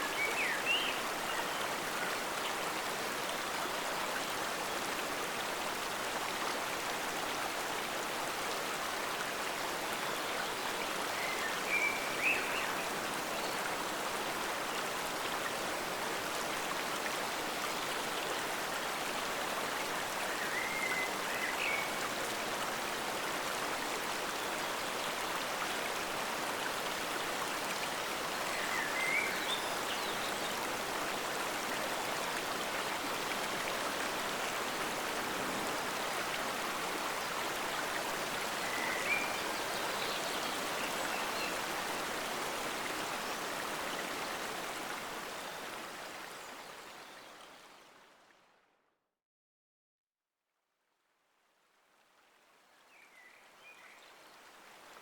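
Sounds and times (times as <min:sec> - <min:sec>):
stream flowing: 0:00.0 - 0:48.6, 0:51.6 - 0:55.0.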